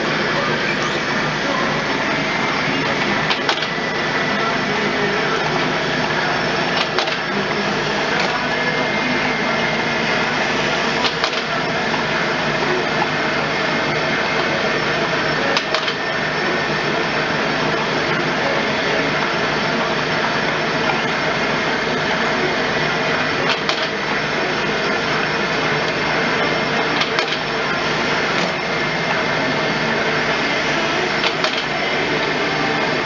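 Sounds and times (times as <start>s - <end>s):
lathe machining brass: 0.0s - 33.0s.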